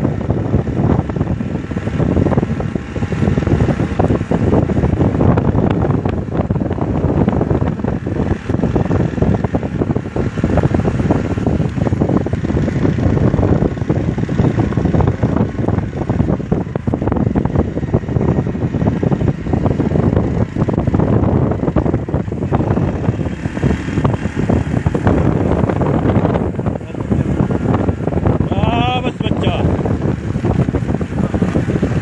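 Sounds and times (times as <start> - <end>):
moving vehicle rumble: 0.0 - 32.0
wind buffeting microphone: 0.0 - 32.0.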